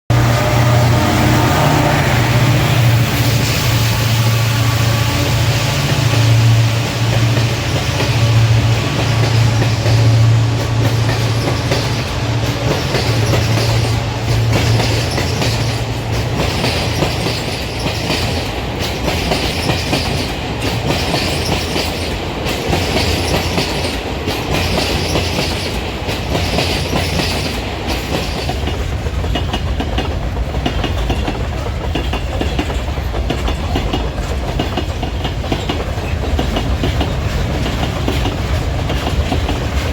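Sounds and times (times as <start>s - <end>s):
train wheels clattering: 0.2s - 39.9s.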